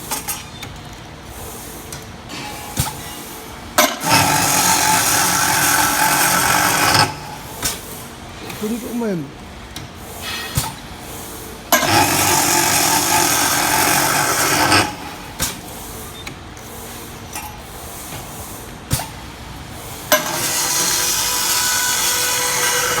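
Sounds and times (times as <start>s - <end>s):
cutting machine loud hiss: 2.3s - 9.3s, 10.0s - 16.1s, 16.7s - 23.0s.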